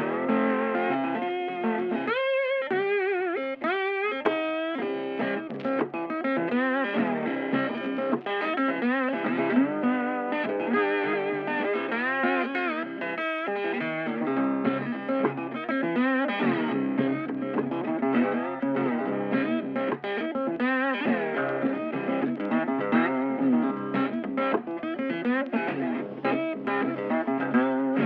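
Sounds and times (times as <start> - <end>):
electric guitar music: 0.0 - 28.0.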